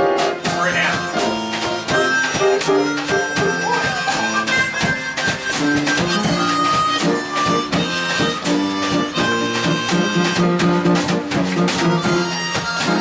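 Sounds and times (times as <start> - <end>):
blues harmonica: 0.0 - 13.0
drum kit beat: 0.0 - 13.0.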